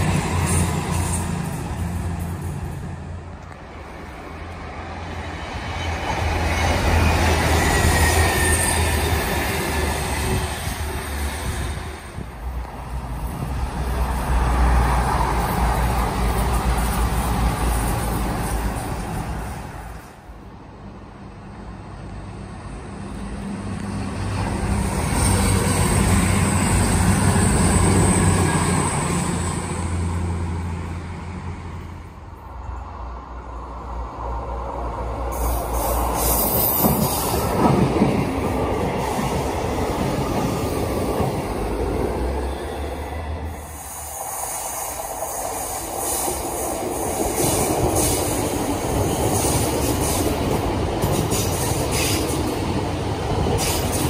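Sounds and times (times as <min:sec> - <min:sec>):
diesel train engines passing: 0:00.0 - 0:54.0
wheels rumbling on rail: 0:00.0 - 0:54.0.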